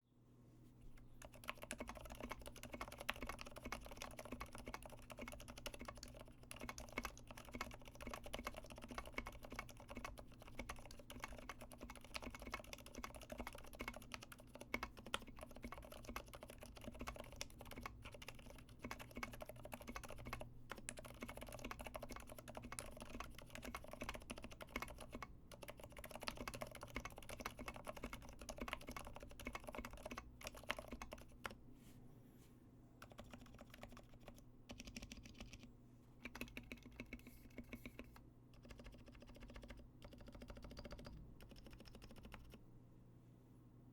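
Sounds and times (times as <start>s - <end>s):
quiet mechanical keyboard typing: 1.0s - 31.6s, 33.0s - 42.6s.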